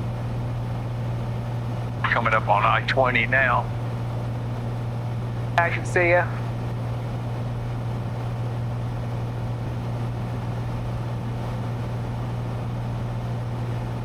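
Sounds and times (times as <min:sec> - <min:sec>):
airplane engine and propeller drone: 0:00.0 - 0:14.0.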